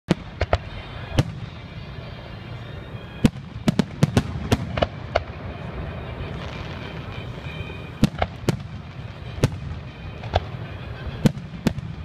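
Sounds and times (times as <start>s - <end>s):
fireworks bursting: 0.1s - 12.0s.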